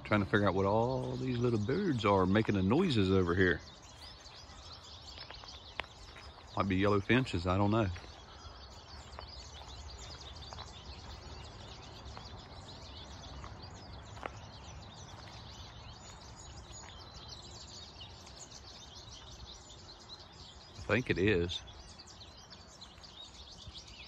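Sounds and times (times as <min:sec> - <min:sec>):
small birds chirping and twittering: 0:00.0 - 0:24.0.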